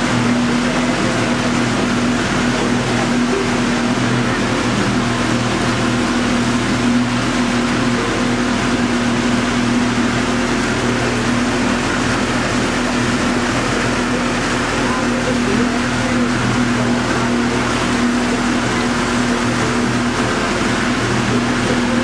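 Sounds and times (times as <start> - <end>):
boat motor humming: 0.0 - 22.0
water rushing: 0.0 - 22.0.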